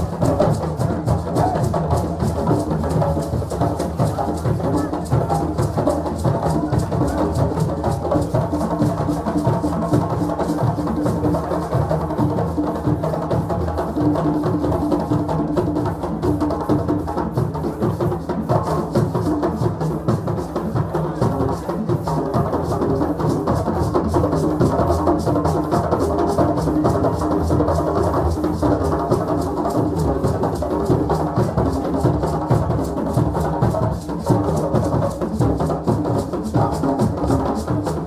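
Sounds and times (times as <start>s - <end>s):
drums playing a fast rhythm: 0.0s - 38.0s.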